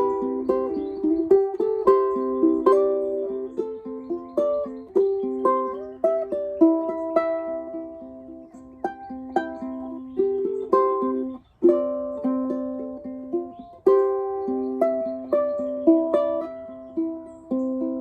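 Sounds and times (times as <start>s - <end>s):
plucked string instrument: 0.0s - 18.0s.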